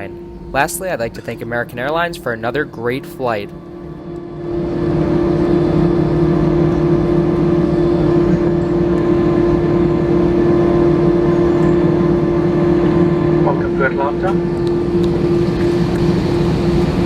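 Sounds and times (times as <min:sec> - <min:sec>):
aircraft engines humming in cabin: 0:00.0 - 0:17.0.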